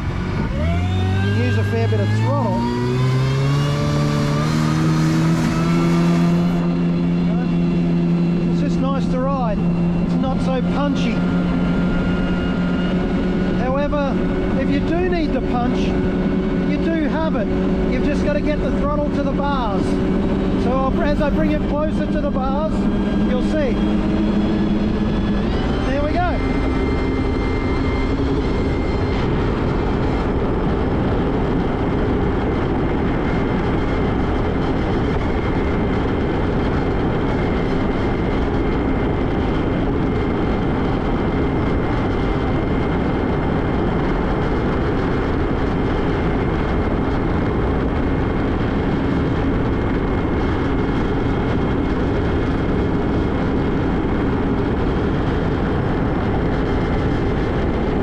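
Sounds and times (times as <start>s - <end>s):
jet ski engine at full throttle: 0.0s - 58.0s.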